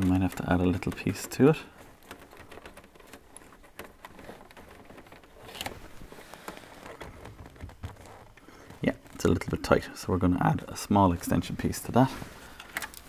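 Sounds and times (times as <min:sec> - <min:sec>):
wire rustling and clicking: 0:00.0 - 0:13.0.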